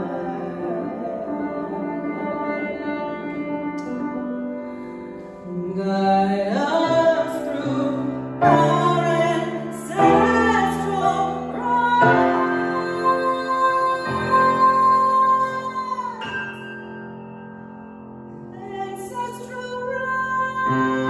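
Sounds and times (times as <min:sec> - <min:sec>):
woman singing: 0:00.0 - 0:03.5, 0:05.4 - 0:16.7, 0:18.5 - 0:21.0
grand piano chords: 0:00.0 - 0:21.0.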